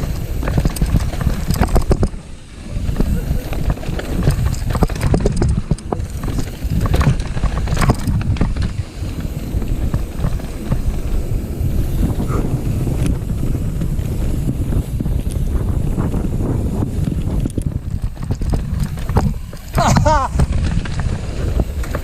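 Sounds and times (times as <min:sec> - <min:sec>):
bike rattling over rough ground: 0:00.0 - 0:22.0
wind rush on microphone: 0:00.0 - 0:22.0.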